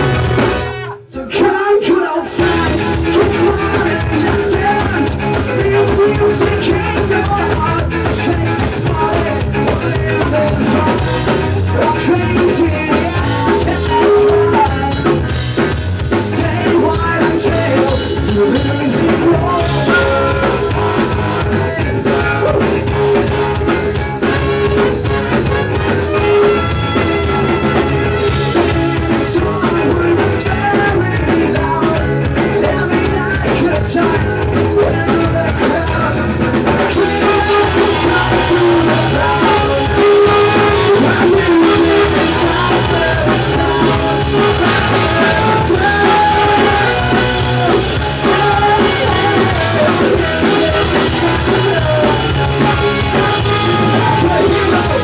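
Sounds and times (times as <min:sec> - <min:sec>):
drum kit: 0:00.0 - 0:01.1, 0:02.3 - 0:55.0
person singing: 0:00.0 - 0:55.0
ska-punk band playing live: 0:00.0 - 0:55.0.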